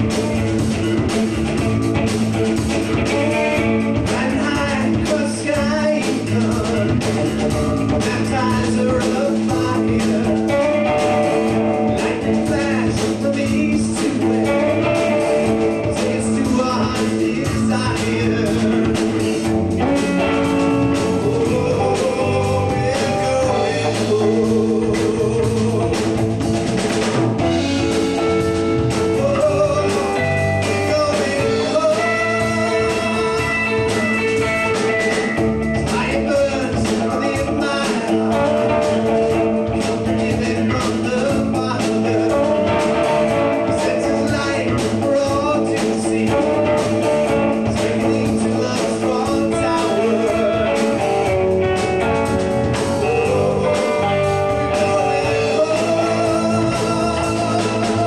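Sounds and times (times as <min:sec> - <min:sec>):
drum kit: 0:00.0 - 0:58.0
electric bass: 0:00.0 - 0:58.0
electric guitar: 0:00.0 - 0:58.0.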